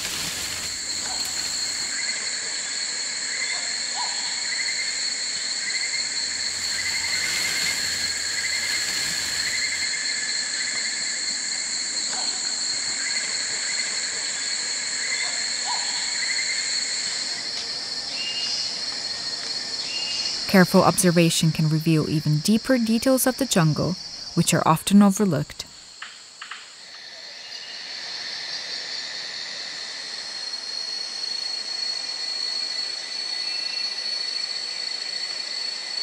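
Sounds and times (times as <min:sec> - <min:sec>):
high-pitched insect drone: 0:00.0 - 0:21.2, 0:25.9 - 0:36.0
pulsing insect trill: 0:00.0 - 0:36.0.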